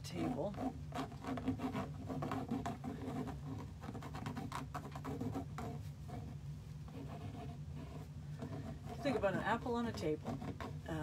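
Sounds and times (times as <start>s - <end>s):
feather brushing paint on canvas: 0.0s - 11.0s.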